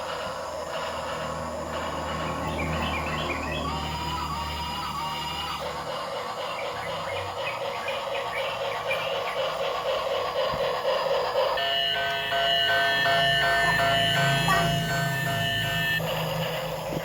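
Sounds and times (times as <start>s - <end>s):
toy train rattly whir: 0.0s - 17.0s.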